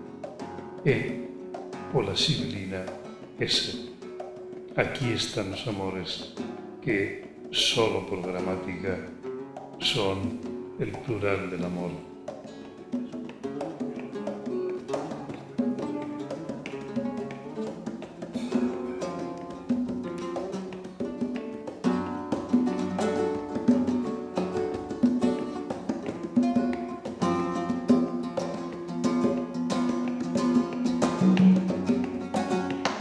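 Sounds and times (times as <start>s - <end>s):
flamenco guitar playing: 0.0s - 33.0s.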